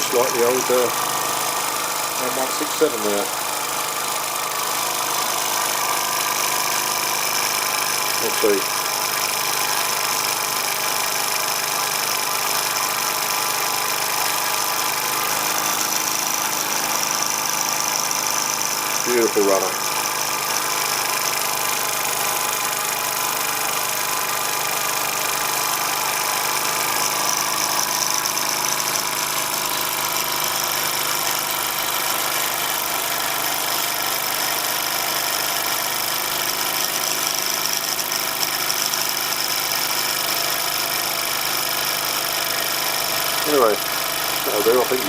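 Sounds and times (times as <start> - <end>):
model steam engine running: 0.0 - 45.0.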